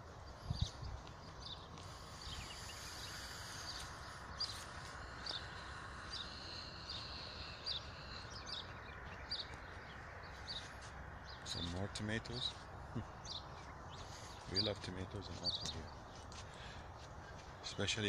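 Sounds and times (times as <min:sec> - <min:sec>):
small birds chirping: 0:00.0 - 0:18.0
steady outdoor hiss: 0:00.0 - 0:18.0.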